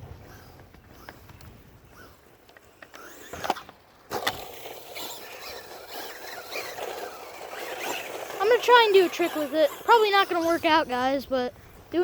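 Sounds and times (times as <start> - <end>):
toy truck running over ground: 0.0 - 11.4
electric motor whine: 0.1 - 11.0.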